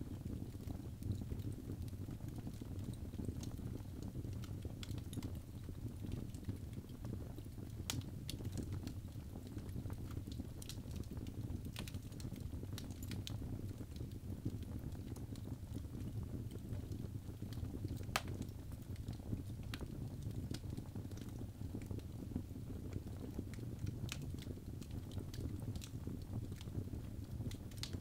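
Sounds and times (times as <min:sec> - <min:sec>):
logs crackling in fireplace: 0:00.0 - 0:28.0.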